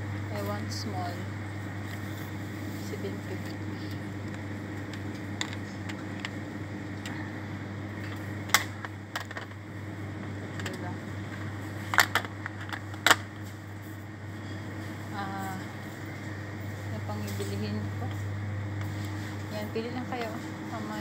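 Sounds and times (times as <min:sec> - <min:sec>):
refrigeration hum: 0:00.0 - 0:21.0.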